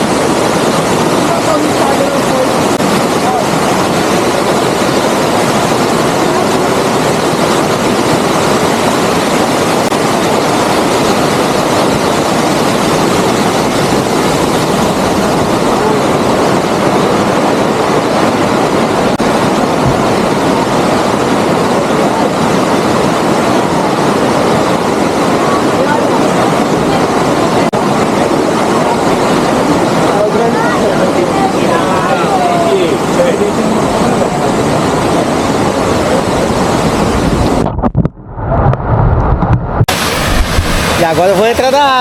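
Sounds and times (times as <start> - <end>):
waterfall rushing: 0.0 - 37.7, 39.8 - 42.0.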